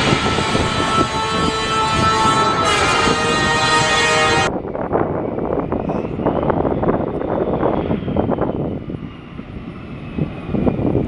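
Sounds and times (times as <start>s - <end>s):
jet engines rumbling: 0.0s - 11.0s
turboprop engines droning: 0.0s - 11.0s.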